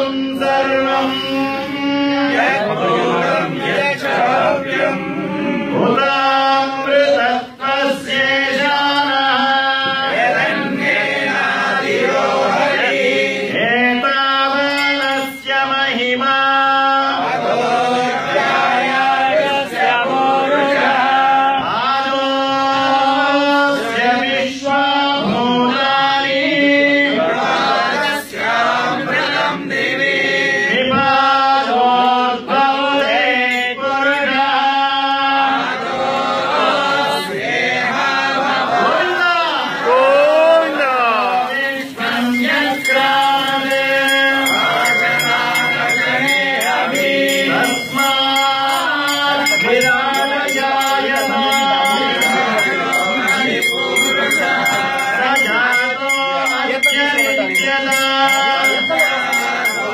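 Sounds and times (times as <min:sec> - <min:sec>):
group singing a devotional chant: 0:00.0 - 0:59.9.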